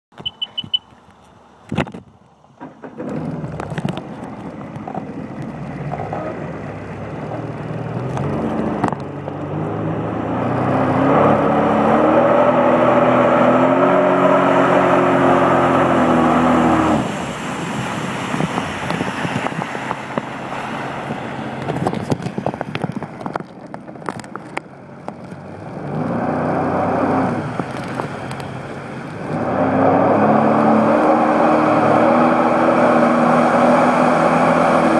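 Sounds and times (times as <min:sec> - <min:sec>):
water and wind noise: 0:00.1 - 0:34.9
watercraft engine revving: 0:02.6 - 0:34.9.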